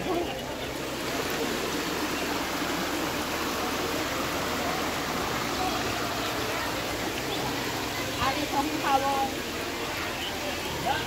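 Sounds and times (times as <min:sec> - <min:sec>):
river water over rocks: 0:00.0 - 0:11.0.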